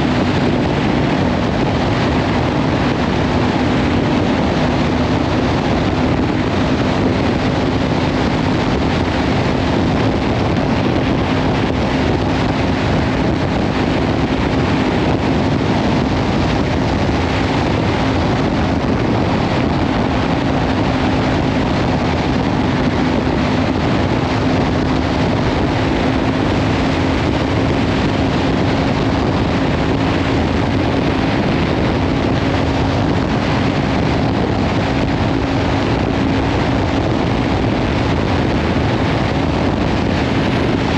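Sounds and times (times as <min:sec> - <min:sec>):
motorcycle engine cruising: 0:00.0 - 0:40.9
wind noise on microphone: 0:00.0 - 0:40.9.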